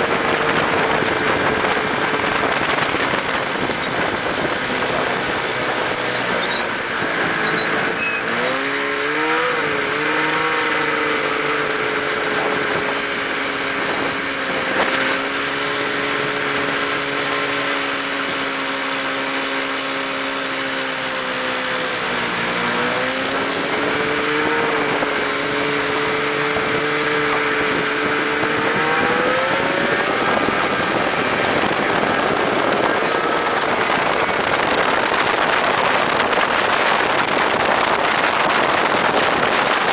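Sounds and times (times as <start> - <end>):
road noise: 0.0 - 39.9
snowmobile engine running: 0.0 - 39.9
wind noise: 0.0 - 39.9.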